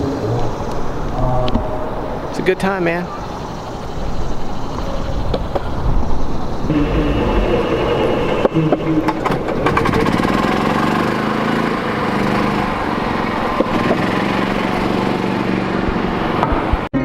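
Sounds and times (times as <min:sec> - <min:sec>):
longboard wheels rolling on pavement: 0:00.0 - 0:16.9.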